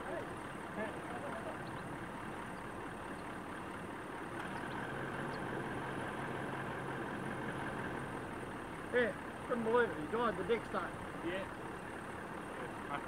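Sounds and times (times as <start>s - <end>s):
distant diesel engine rumble: 0.0s - 13.0s.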